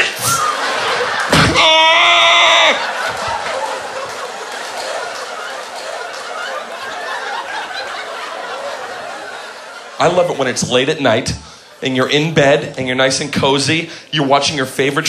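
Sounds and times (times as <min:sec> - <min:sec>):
crowd laughing: 0:00.0 - 0:12.4.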